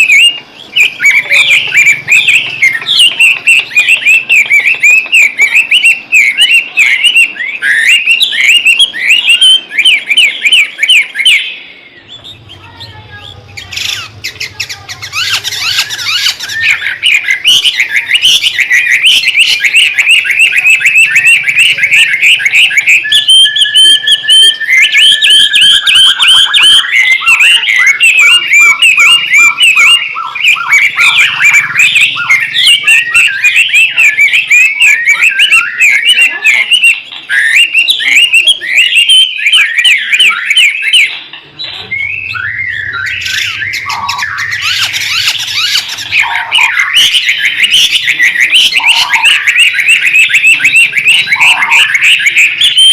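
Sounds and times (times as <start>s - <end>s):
songbird chattering song: 0.0s - 52.9s.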